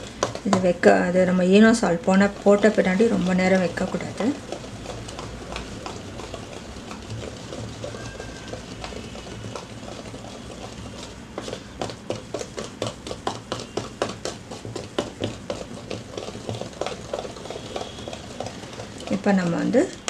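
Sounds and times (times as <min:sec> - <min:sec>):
whisk beating batter in bowl: 0:00.0 - 0:20.0.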